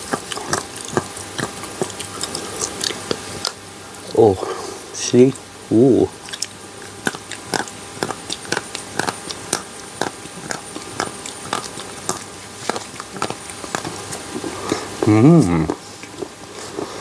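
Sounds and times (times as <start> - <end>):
chewing chocolate: 0.0 - 4.1, 6.1 - 17.0.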